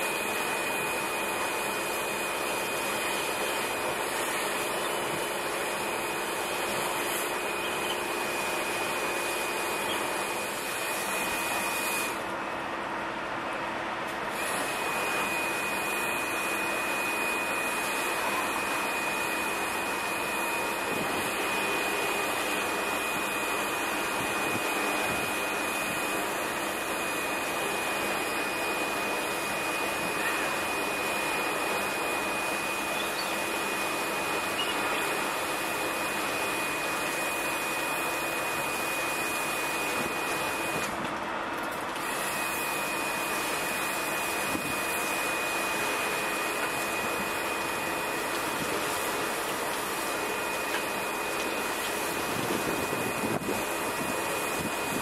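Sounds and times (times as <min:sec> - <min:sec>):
steady machine noise: 0:00.0 - 0:55.0.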